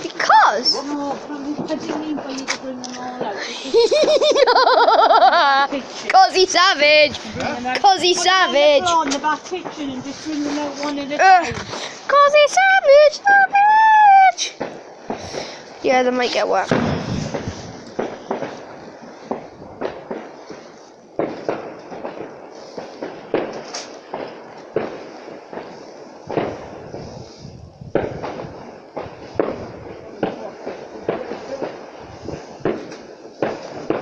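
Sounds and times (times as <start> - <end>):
fireworks banging: 0.0 - 34.0.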